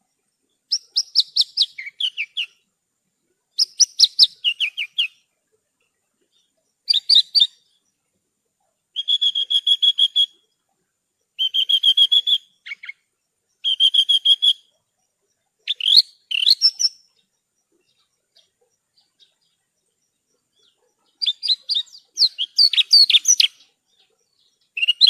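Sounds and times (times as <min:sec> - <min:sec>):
bush lark singing: 0:00.4 - 0:02.7, 0:03.5 - 0:05.3, 0:06.2 - 0:07.9, 0:08.9 - 0:10.5, 0:11.3 - 0:25.0.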